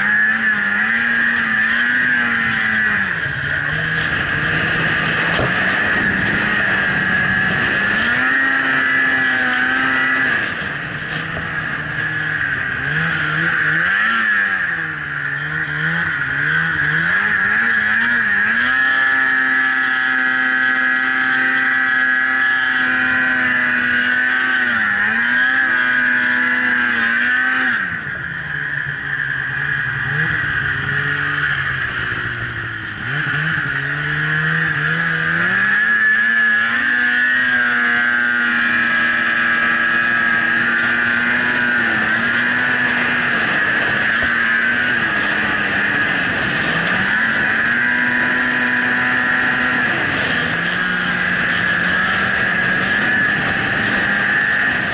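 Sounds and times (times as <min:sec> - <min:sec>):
snowmobile engine revving: 0:00.0 - 0:54.9
steady high whine: 0:00.0 - 0:54.9.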